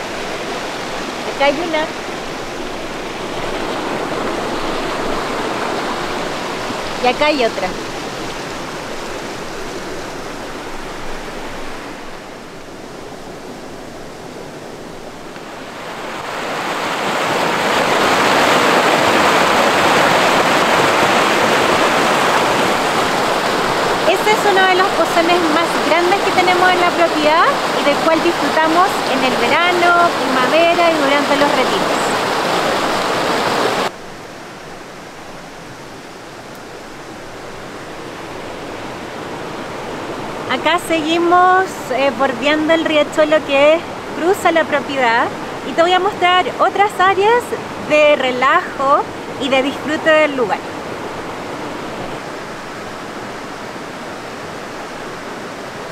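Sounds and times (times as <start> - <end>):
mountain stream rushing: 0.0 - 55.9.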